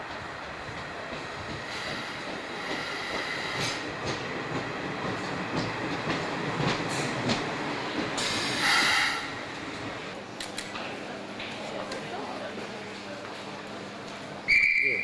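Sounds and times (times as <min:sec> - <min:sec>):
train rumbling into station: 0:00.0 - 0:15.0.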